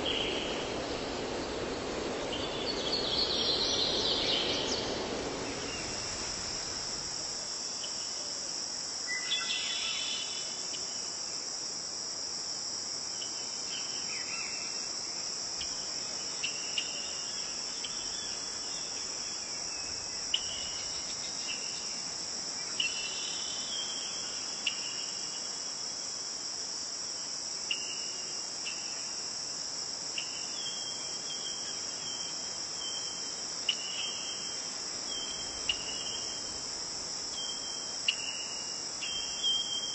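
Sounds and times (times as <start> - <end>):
short cricket chirps: 0.0 - 11.8, 13.1 - 39.9
crickets trilling: 0.0 - 39.9.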